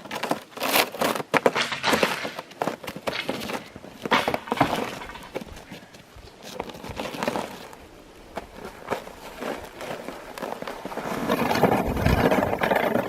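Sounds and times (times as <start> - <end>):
skis crunching and swishing on snow: 0.0 - 13.0.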